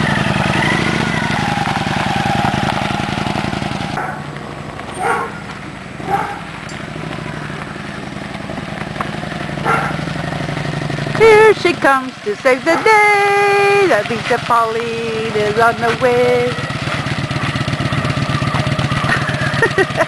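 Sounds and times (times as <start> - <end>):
motorcycle engine pulling away: 0.0 - 20.0.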